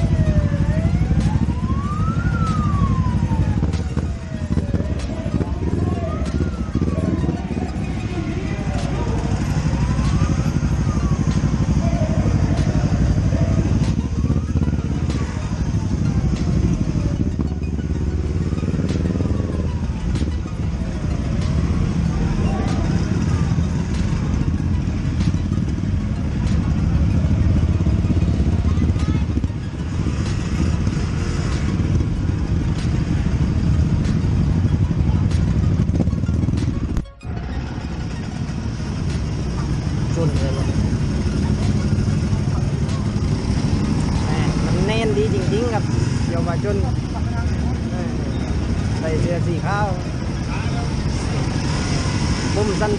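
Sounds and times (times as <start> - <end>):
engine revving: 0.0 - 52.9
motorcycle engines puttering: 0.0 - 52.9.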